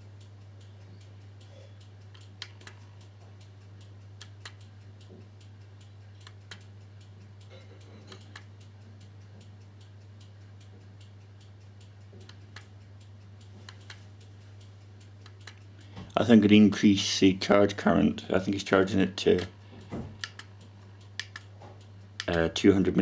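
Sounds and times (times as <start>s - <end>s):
faint regular ticking: 0.0s - 23.0s
low steady hum: 0.0s - 23.0s.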